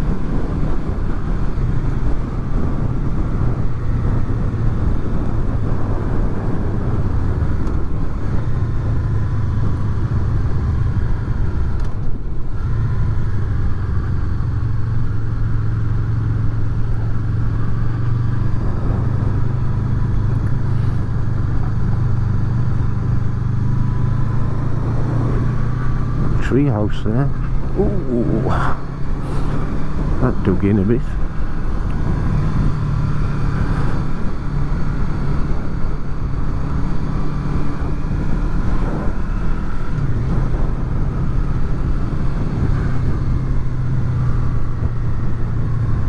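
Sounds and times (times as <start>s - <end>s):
motorcycle engine running: 0.0s - 46.0s
road and wind noise: 0.0s - 46.0s.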